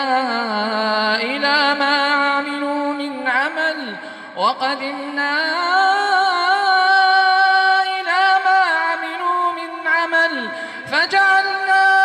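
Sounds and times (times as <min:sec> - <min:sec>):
melodic quran recitation: 0:00.0 - 0:12.0.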